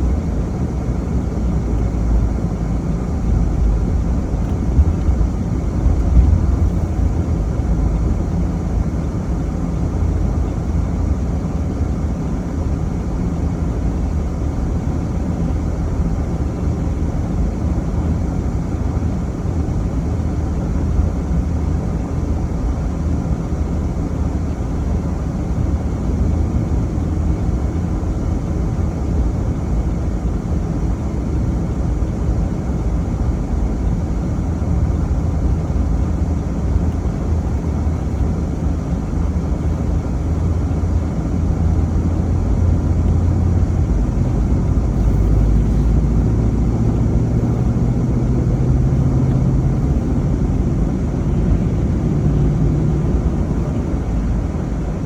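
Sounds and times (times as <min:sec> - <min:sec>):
car engine hum: 0:00.0 - 0:55.0
road rumble: 0:00.0 - 0:55.0.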